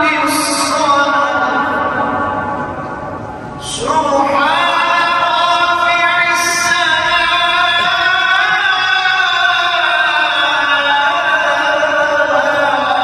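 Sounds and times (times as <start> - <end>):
man chanting prayer: 0.0 - 2.3, 3.6 - 13.0.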